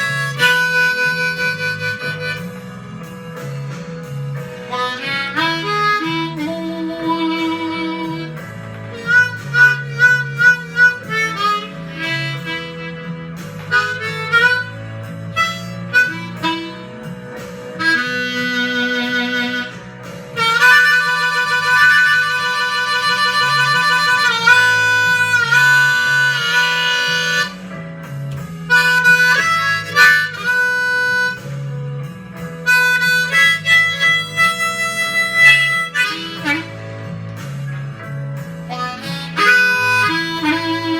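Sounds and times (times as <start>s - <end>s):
guitar accompaniment: 0.0s - 40.9s
harmonica melody: 0.0s - 40.9s.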